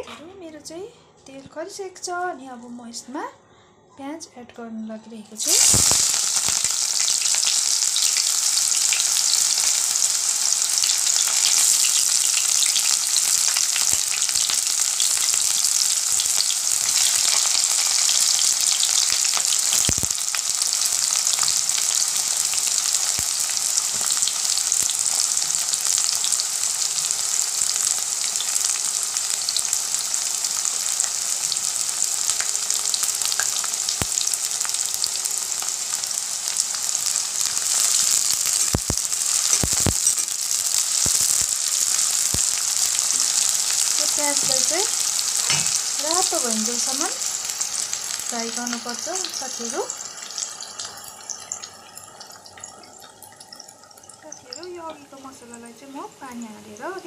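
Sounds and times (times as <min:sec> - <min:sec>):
onions sizzling in hot oil: 0:05.3 - 0:57.0.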